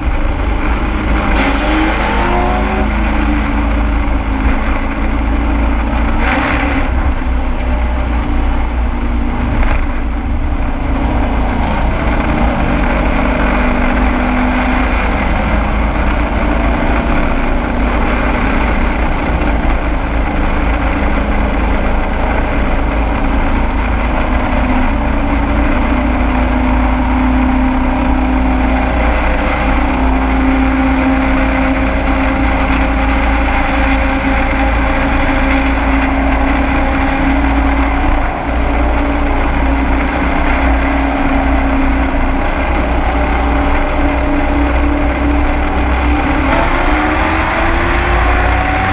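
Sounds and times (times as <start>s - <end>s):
low rumble: 0.0s - 48.9s
truck engine running hard: 0.0s - 48.9s.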